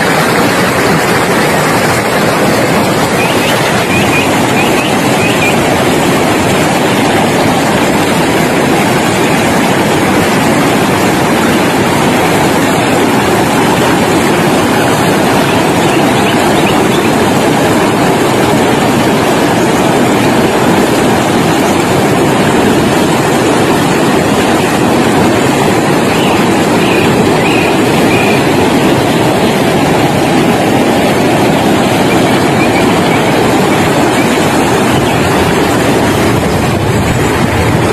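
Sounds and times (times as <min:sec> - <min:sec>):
river rapids rushing: 0:00.0 - 0:37.9.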